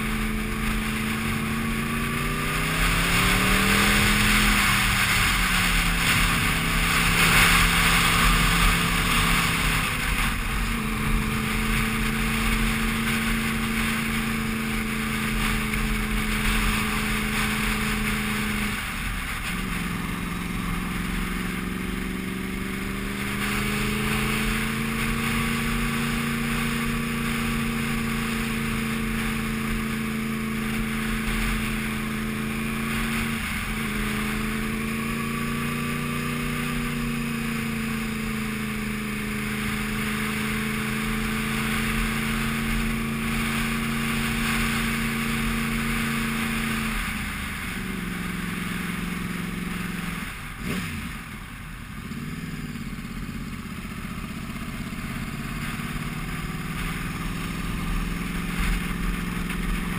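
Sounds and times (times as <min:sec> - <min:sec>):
motorcycle engine under load: 0:00.0 - 0:59.9.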